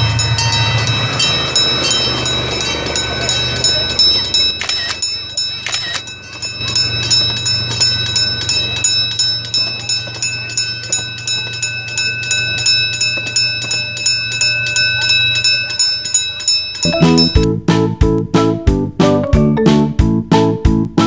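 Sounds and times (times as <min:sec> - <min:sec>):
crossing signal bell ringing: 0:00.0 - 0:17.5.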